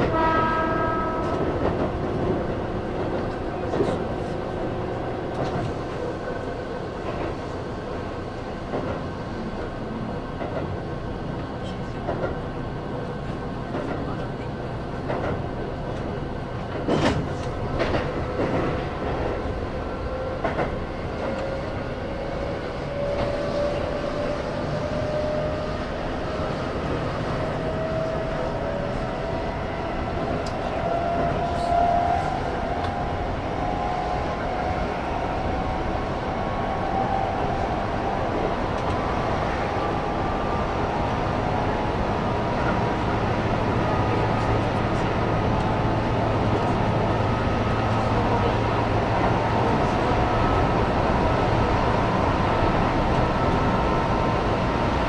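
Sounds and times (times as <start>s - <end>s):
wheels rumbling on rail: 0.0s - 55.0s.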